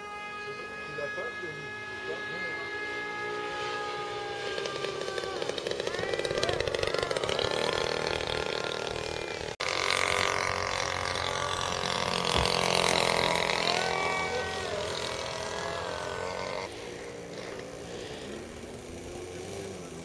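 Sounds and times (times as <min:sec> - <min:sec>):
model aeroplane engine: 0:00.0 - 0:20.0.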